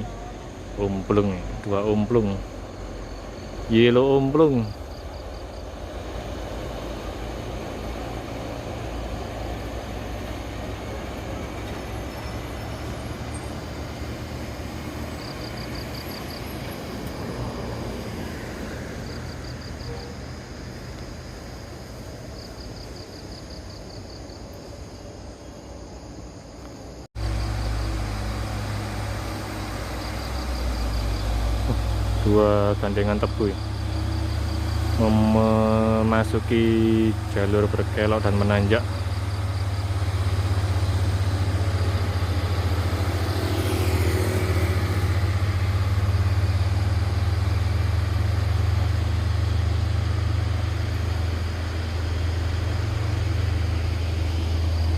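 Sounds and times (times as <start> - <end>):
close heavy engine rumble: 0.0 - 25.4, 26.9 - 54.9
heavy road traffic rumble: 0.0 - 54.9
insects chirping: 0.0 - 54.9.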